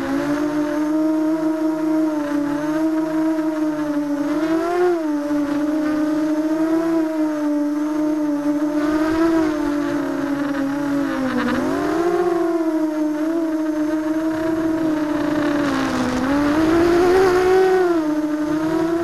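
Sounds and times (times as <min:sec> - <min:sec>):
drone motors and propellers whining: 0:00.0 - 0:19.0.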